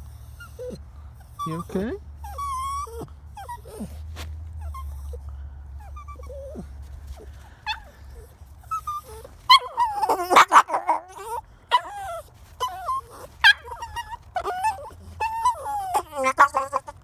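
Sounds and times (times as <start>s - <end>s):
dog whimpering and whining: 0.0s - 17.0s.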